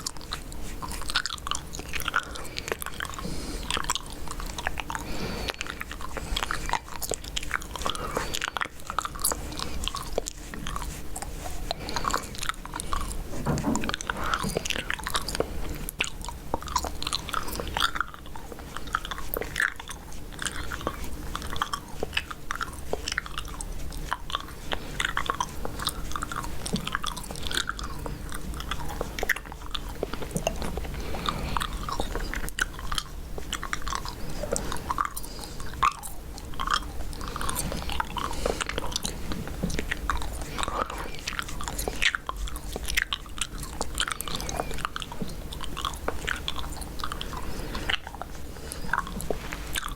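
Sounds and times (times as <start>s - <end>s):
faint low hum: 0.0s - 49.9s
gum chewing mouth smacks: 0.0s - 49.9s.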